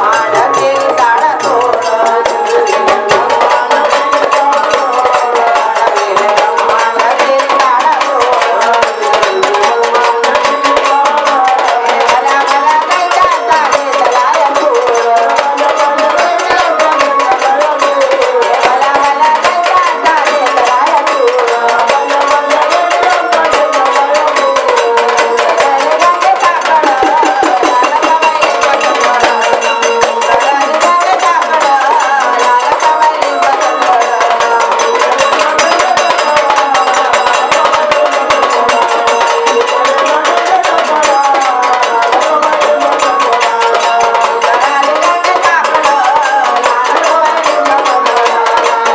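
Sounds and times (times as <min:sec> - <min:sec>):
fast clicking percussion: 0:00.0 - 0:48.9
woman singing devotional song: 0:00.0 - 0:48.9.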